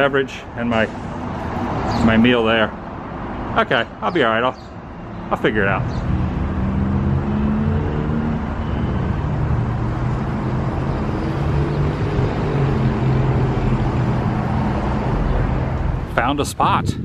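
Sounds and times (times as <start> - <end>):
vehicle engine humming: 0.0 - 16.4
traffic noise: 0.0 - 17.0.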